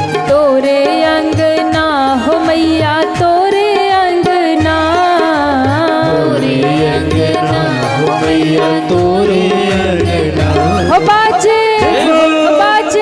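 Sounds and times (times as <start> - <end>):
hand-drum beats: 0.0 - 13.0.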